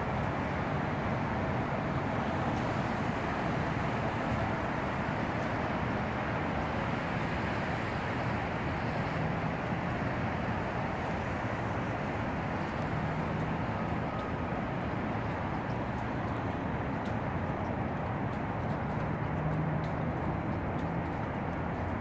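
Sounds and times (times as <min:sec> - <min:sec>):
distant city traffic: 0:00.0 - 0:22.0.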